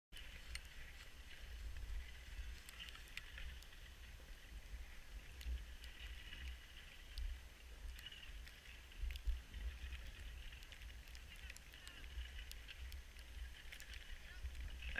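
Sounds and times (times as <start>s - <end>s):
small clicks: 0.2s - 1.4s, 2.0s - 3.9s, 5.2s - 14.9s.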